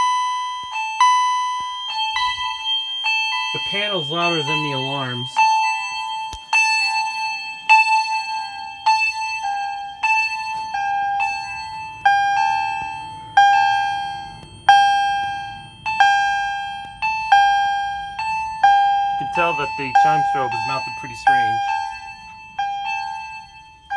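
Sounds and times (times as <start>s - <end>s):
fire alarm electronic chimes: 0.0s - 23.9s.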